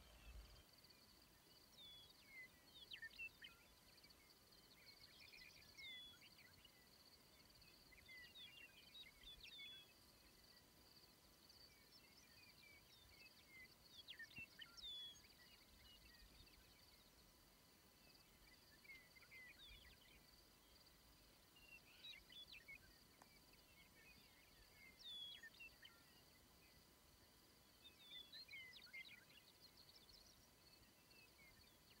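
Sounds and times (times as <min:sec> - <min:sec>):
songbird chirping: 0:00.0 - 0:32.0.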